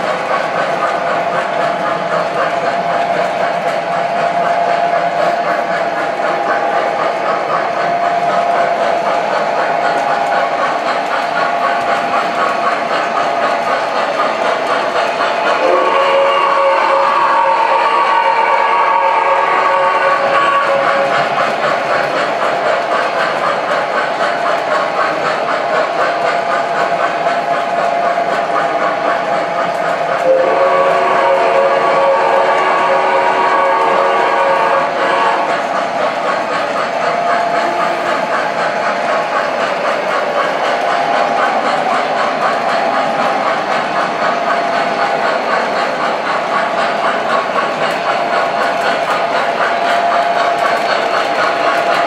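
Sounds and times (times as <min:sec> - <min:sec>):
model train running on track: 0:00.0 - 0:52.0.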